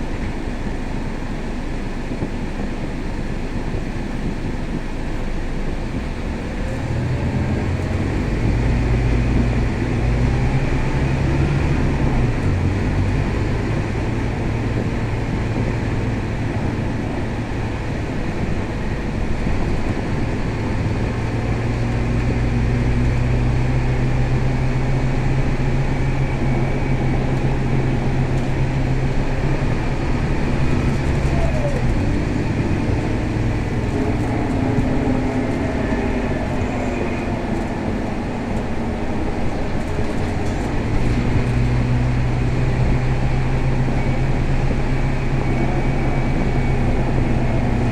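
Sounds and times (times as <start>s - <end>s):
bus diesel engine drone: 0.0s - 47.9s
road and body noise: 0.0s - 47.9s.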